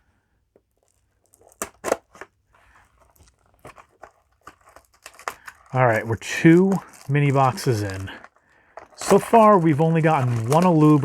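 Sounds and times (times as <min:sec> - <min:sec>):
cards and foil wrappers rustling: 0:00.7 - 0:11.0.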